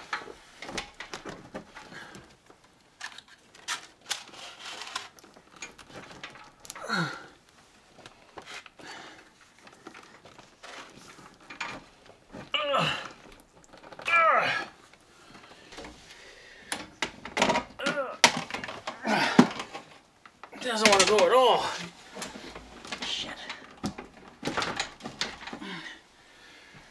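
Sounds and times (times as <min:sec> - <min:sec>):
wires rustling and clicking: 0:00.0 - 0:26.9.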